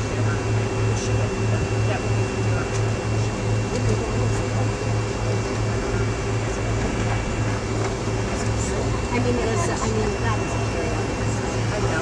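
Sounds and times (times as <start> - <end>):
jet engines idling drone: 0.0 - 12.0
pulsing low hum: 0.0 - 12.0.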